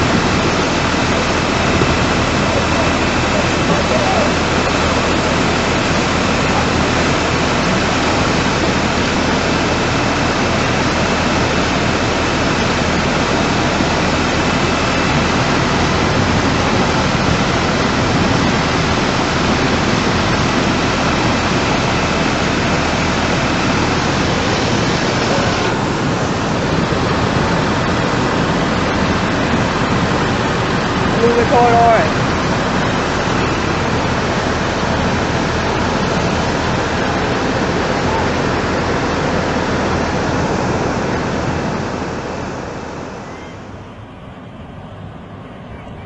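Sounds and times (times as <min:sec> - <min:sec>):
rushing floodwater: 0:00.0 - 0:44.1.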